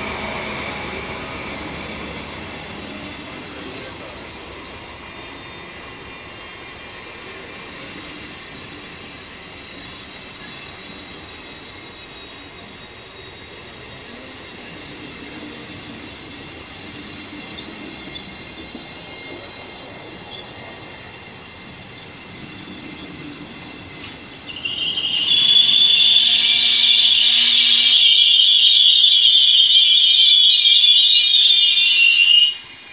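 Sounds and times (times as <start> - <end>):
train coaches rumbling past: 0.0 - 32.9
train wheels squealing: 0.0 - 32.9.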